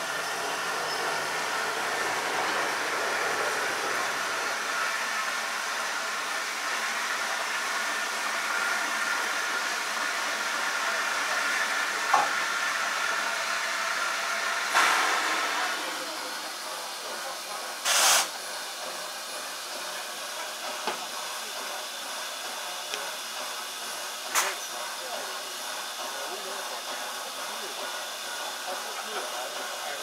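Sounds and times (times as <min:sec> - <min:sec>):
steam hissing from locomotive: 0:00.0 - 0:30.0.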